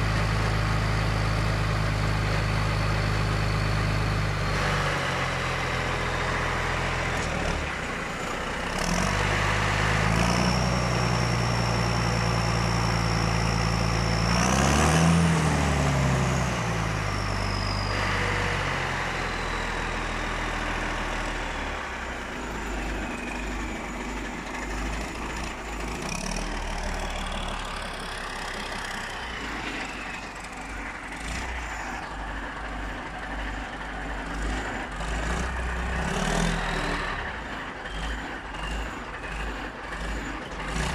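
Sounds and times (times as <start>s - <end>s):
diesel engine revving and idling: 0.0s - 40.9s
high turbo whine: 6.4s - 40.9s.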